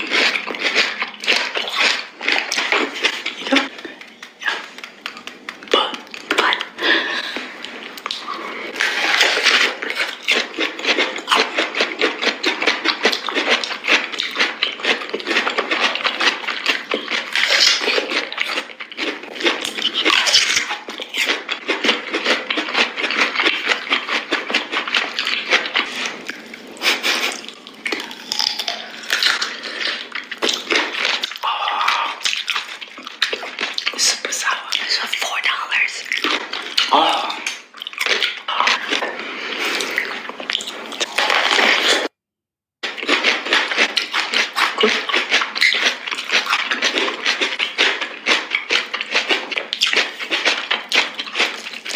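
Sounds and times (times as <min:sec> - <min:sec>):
crunchy fruit chewing: 0:00.0 - 0:42.1, 0:42.8 - 0:51.9.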